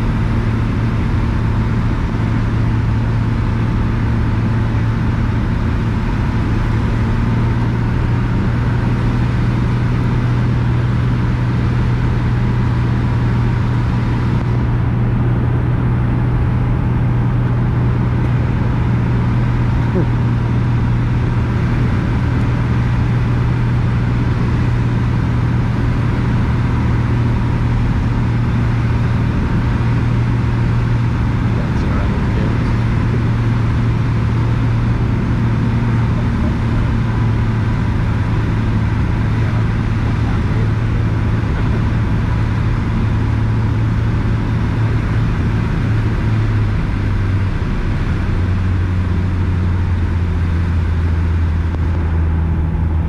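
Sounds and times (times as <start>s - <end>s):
aircraft engine and propeller drone: 0.0s - 53.0s.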